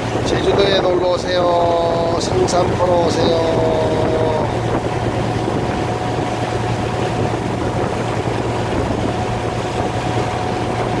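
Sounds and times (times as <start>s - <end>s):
boat engine droning: 0.0s - 11.0s
rushing water noise: 0.0s - 11.0s.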